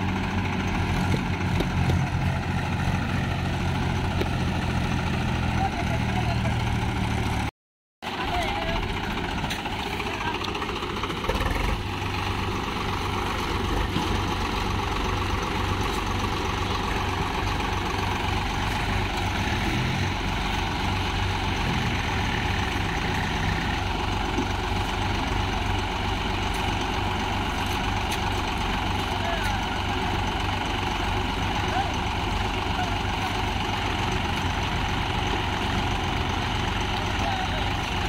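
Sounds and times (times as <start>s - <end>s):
distant tractor engines: 0.0s - 7.5s, 8.1s - 38.0s
tractor diesel engine idling: 0.0s - 38.0s.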